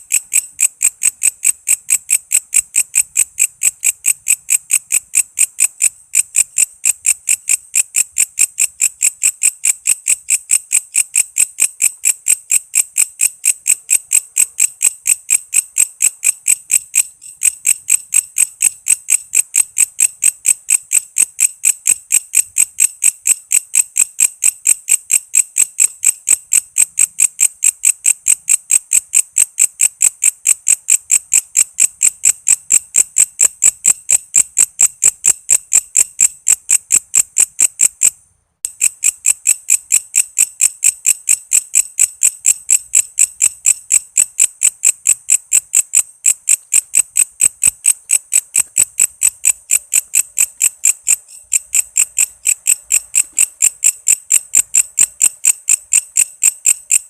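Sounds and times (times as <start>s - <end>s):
bush cricket rasping pulses: 0.0s - 38.1s, 38.7s - 57.0s.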